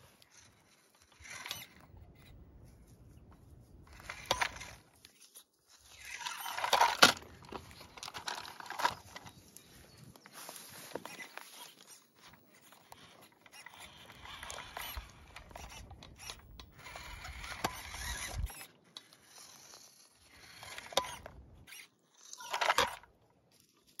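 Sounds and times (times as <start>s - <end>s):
small electric motor whirring: 0.0s - 2.8s, 3.8s - 23.0s.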